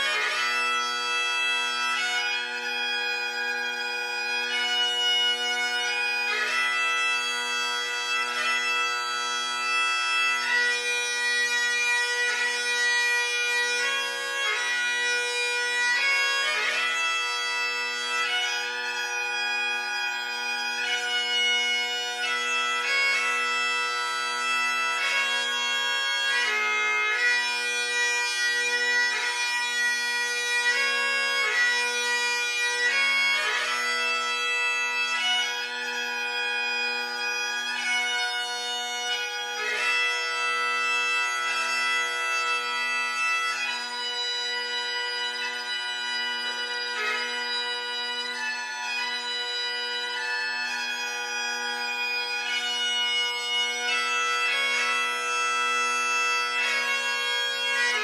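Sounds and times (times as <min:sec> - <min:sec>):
bagpipe melody over drones: 0:00.0 - 0:58.0.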